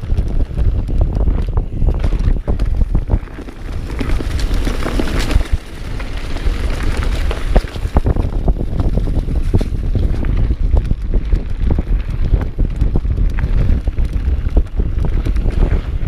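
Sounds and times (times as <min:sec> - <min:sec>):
bike knocks and rattles: 0:00.0 - 0:16.0
tyres rushing on dirt: 0:00.0 - 0:16.0
wind buffeting microphone: 0:00.0 - 0:16.0.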